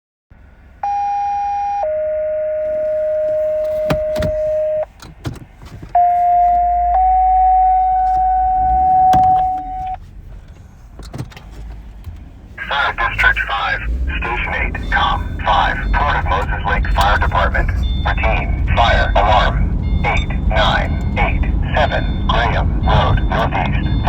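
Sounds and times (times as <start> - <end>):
two-tone alert tones over radio: 0.8 - 4.9, 6.0 - 10.0, 12.6 - 24.0.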